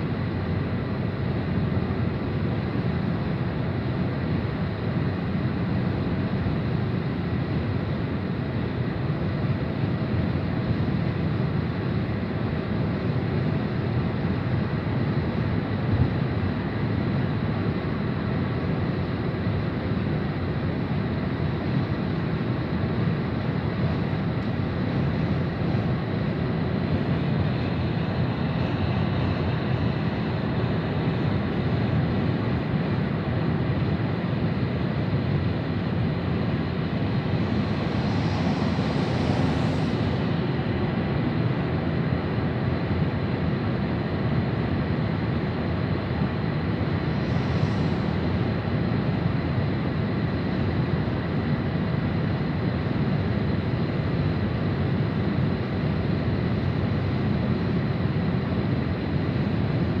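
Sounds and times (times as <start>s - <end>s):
road and wind noise inside vehicle: 0.0s - 60.0s.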